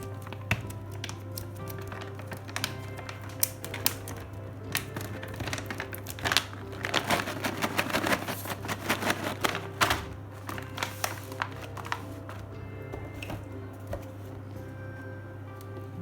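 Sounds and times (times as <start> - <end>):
packaging crinkling and rustling: 0.0 - 14.4
soft background music: 0.0 - 16.0.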